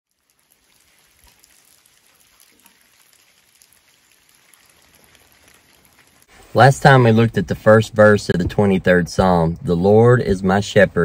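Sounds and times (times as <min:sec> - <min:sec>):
light rain on a creek: 0:00.1 - 0:09.2.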